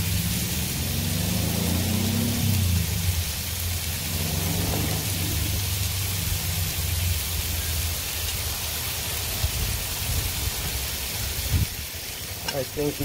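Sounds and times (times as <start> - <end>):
burgers sizzling on a griddle: 0.0 - 13.0.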